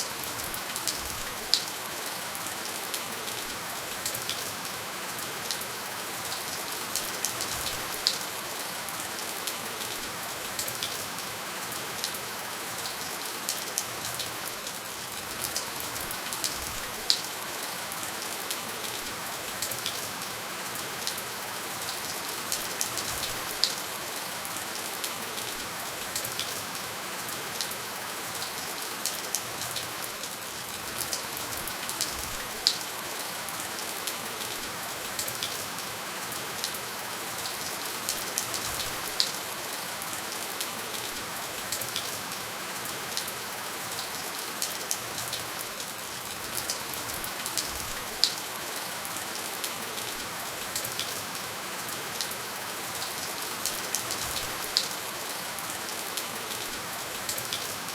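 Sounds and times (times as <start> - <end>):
raindrops ticking on a surface: 0.0 - 57.9
steady rain hissing: 0.0 - 57.9.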